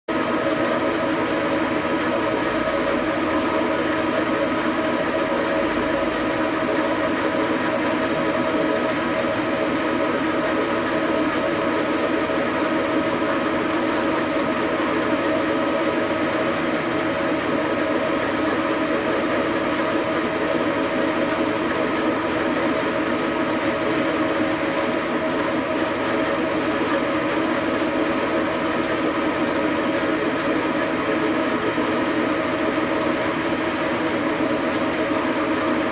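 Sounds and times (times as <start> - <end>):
lathe gear whine: 0.1 - 35.9.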